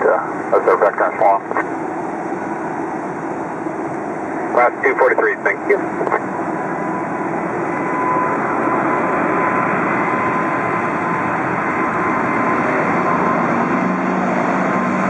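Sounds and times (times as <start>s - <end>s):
jet engines at takeoff thrust: 0.0s - 15.0s.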